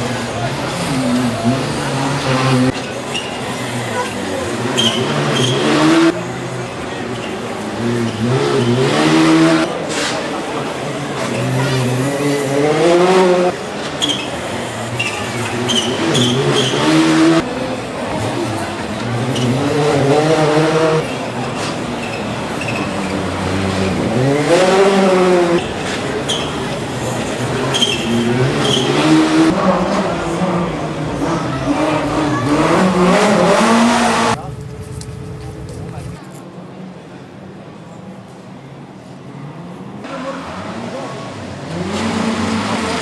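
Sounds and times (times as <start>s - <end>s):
rally car engine at full throttle: 0.0s - 36.2s, 38.8s - 43.0s.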